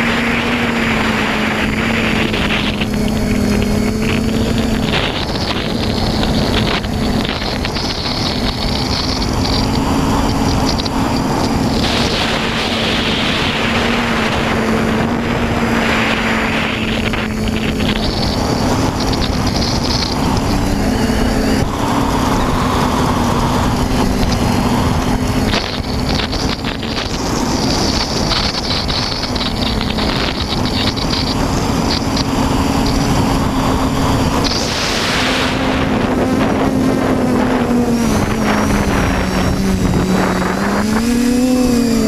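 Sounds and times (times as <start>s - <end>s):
drone motors humming: 0.0s - 42.0s
wind on microphone: 0.0s - 42.0s.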